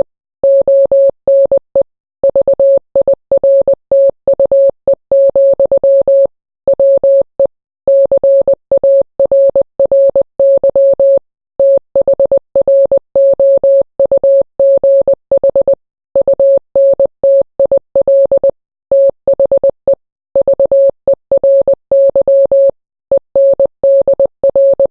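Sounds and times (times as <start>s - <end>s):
morse code beep tone: 0.0s - 24.9s.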